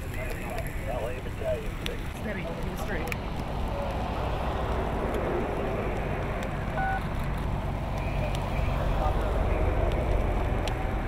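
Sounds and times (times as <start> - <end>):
fire crackling: 0.0 - 11.0
low rumble of engines: 0.0 - 11.0.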